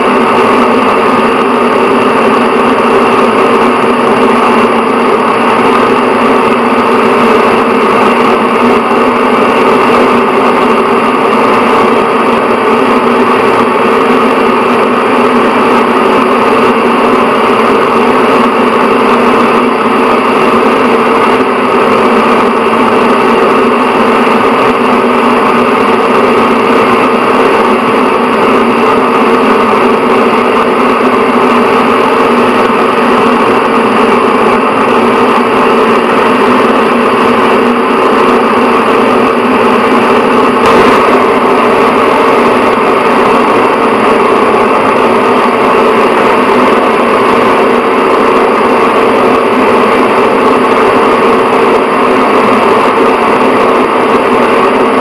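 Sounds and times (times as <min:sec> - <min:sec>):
exhaust fan whirring: 0:00.0 - 0:55.0.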